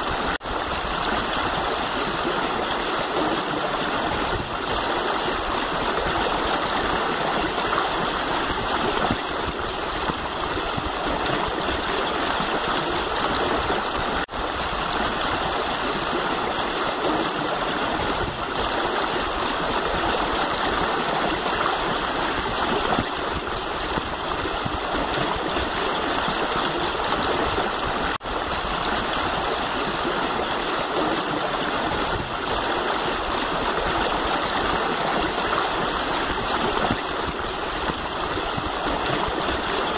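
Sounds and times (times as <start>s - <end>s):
river running over rocks: 0.0s - 39.9s.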